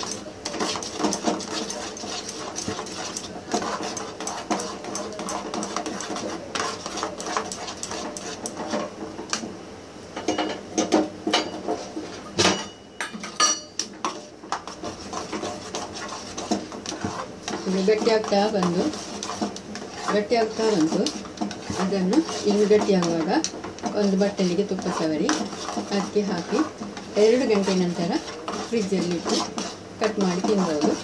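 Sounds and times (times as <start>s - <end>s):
metal ladle scraping steel pot: 0.0s - 8.9s, 13.4s - 31.0s.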